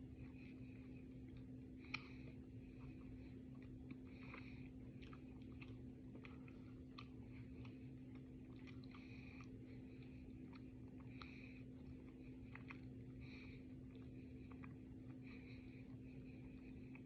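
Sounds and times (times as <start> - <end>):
chewing with wet smacking: 0.0 - 17.0.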